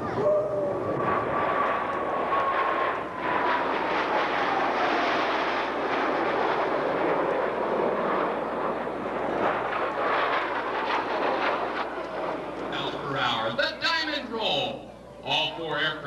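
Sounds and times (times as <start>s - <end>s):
military jets passing by: 0.0s - 16.0s.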